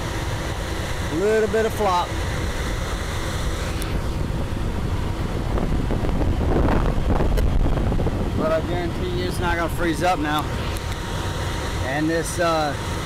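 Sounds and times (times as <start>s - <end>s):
belt-driven blower running: 0.0s - 13.0s
low wind rumble on microphone: 0.0s - 13.0s.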